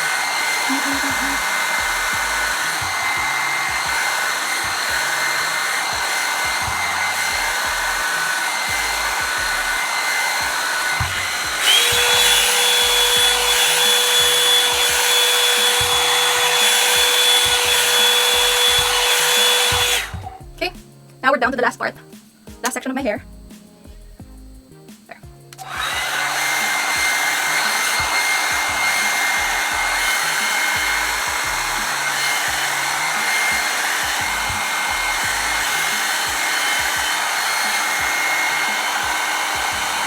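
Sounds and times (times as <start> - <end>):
hair dryer blowing: 0.0 - 20.5, 25.5 - 40.0.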